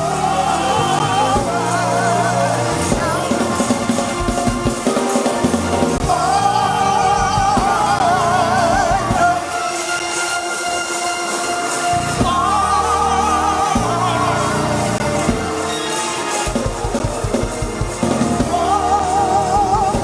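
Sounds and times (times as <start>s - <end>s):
bass: 0.0s - 9.5s, 11.9s - 15.8s, 16.8s - 20.0s
drums: 0.0s - 20.0s.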